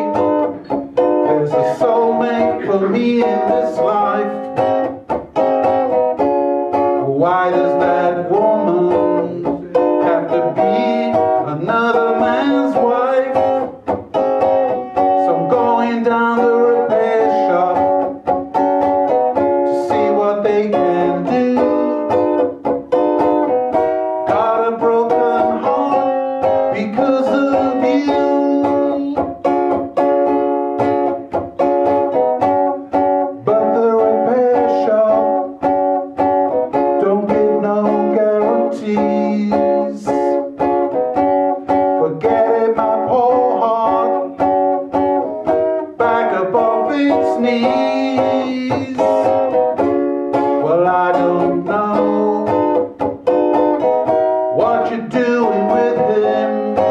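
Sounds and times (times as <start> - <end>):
plucked string instrument: 0.0 - 56.9.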